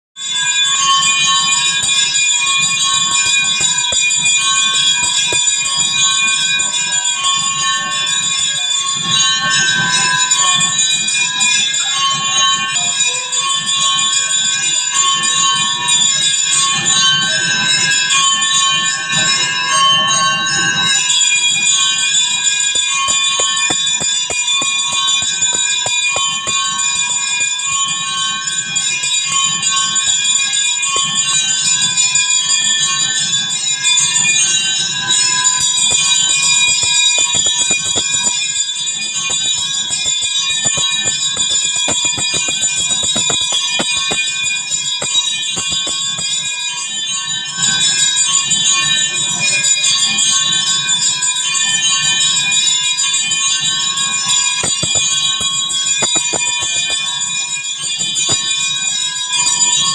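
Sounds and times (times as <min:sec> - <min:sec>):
temple bells ringing: 0:00.3 - 0:17.8, 0:20.9 - 0:49.4, 0:50.9 - 0:59.9.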